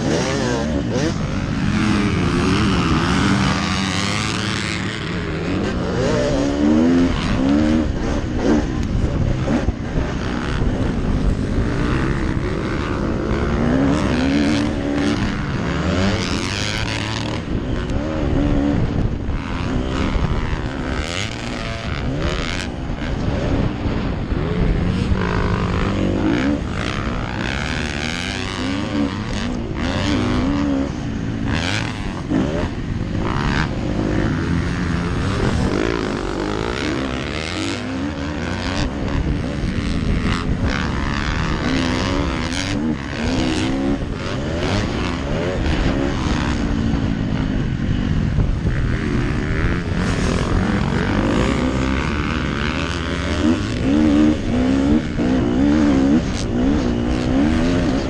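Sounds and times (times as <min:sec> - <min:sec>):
dirt bike engine revving: 0:00.0 - 0:58.0
other dirt bikes nearby: 0:00.0 - 0:58.0
wind noise over helmet: 0:00.0 - 0:58.0.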